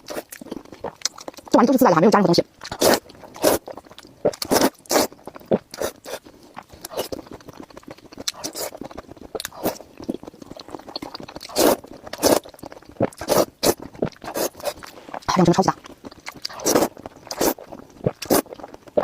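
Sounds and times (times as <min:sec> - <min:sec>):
chewing: 0:00.0 - 0:01.6, 0:02.6 - 0:19.0
slurping noodles: 0:02.6 - 0:19.0.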